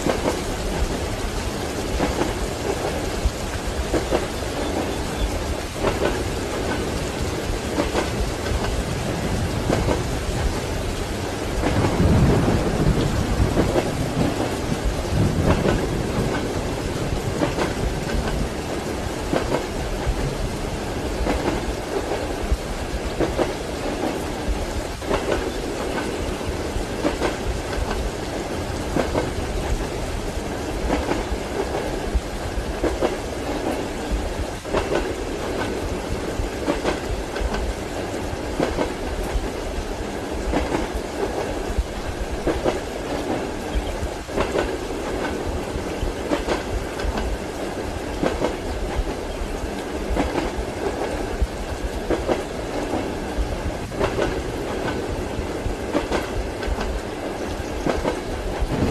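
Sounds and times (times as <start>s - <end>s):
train wheels clacking over rail joints: 0.0s - 39.6s, 40.4s - 58.9s
train rolling rumble: 0.0s - 58.9s.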